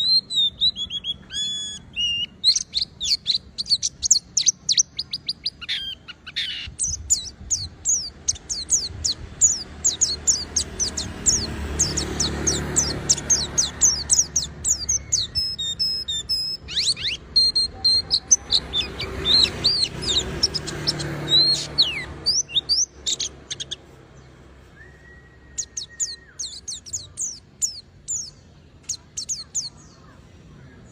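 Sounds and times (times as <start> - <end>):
bird singing high chirps: 0.0 - 30.9.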